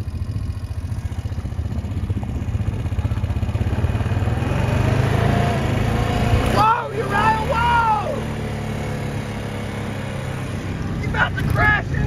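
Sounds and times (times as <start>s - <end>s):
vehicle engine driving on road: 0.0s - 12.0s.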